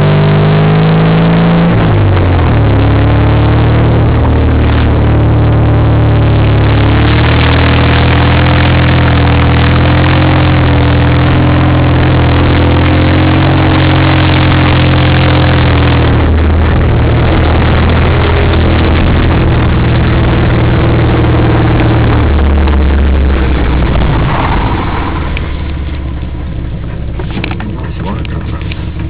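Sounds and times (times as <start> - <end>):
engine running loud inside cab: 0.0 - 29.0.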